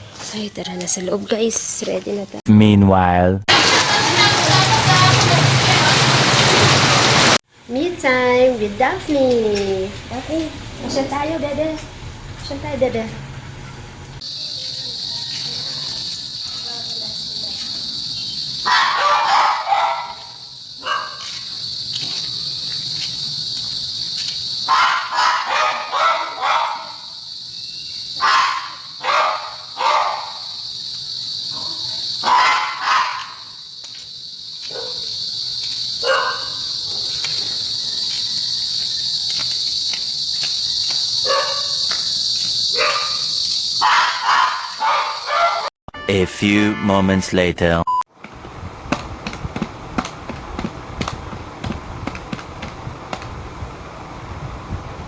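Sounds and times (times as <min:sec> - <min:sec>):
insects chirring: 0:03.5 - 0:13.1, 0:14.2 - 0:45.7, 0:48.2 - 0:55.0.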